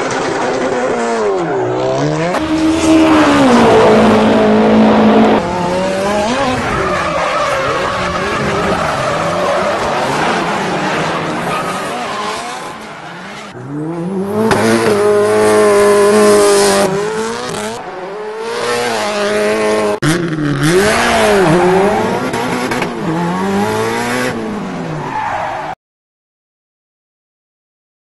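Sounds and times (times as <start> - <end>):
racing car engine revving: 0.0 - 24.8.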